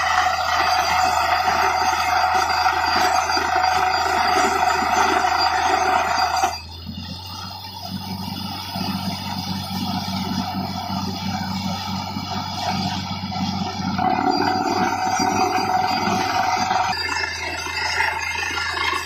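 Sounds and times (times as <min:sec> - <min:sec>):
drilling rig drone: 0:00.0 - 0:19.0.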